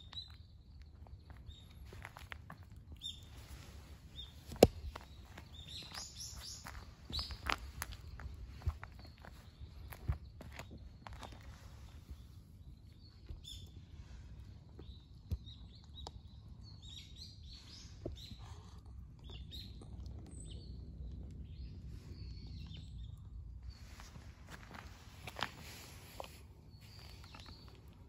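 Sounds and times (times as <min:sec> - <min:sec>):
low steady rumble: 0:00.0 - 0:28.0
small birds chirping: 0:00.0 - 0:28.0.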